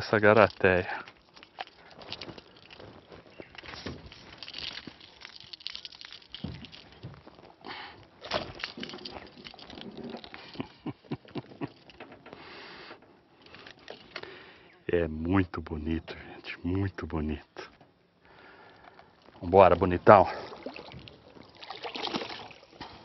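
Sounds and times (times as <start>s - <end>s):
clicks and rustles of handling fish: 0.0s - 14.5s, 18.6s - 23.0s.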